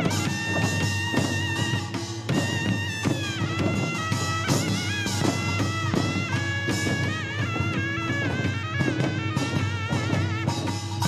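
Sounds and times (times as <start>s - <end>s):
drum strokes: 0.0s - 11.0s.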